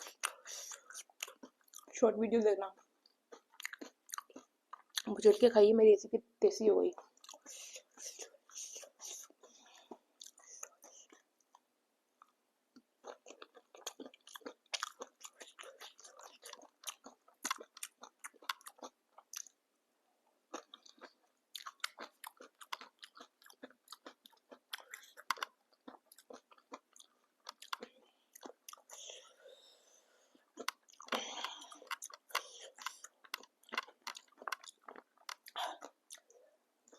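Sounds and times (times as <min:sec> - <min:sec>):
chewing and crunching crisp food: 0:00.0 - 0:05.5, 0:06.9 - 0:19.6, 0:20.4 - 0:36.9.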